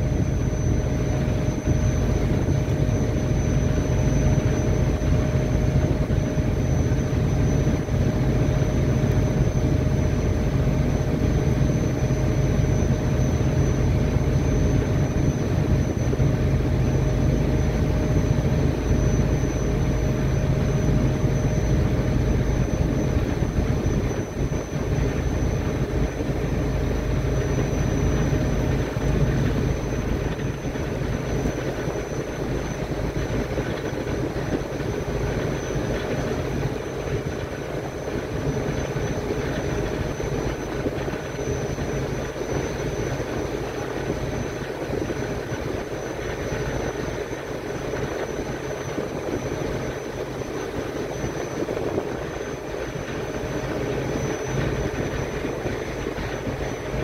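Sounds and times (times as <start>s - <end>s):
ship engine drone: 0.0s - 57.0s
thin high whine: 0.0s - 57.0s.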